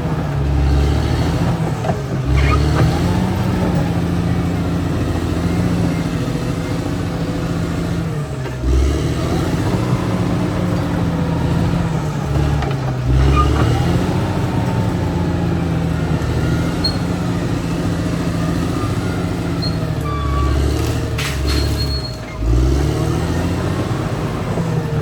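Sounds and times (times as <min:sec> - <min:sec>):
bulldozer diesel engine working: 0:00.0 - 0:25.0.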